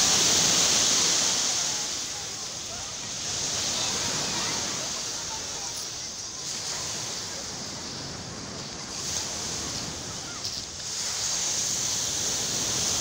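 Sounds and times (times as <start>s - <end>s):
surf washing onto shore: 0.0s - 13.0s.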